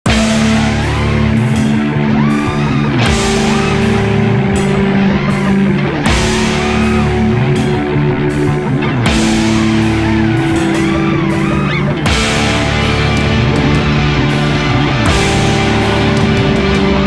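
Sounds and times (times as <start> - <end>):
rock music with guitar: 0.0 - 17.0.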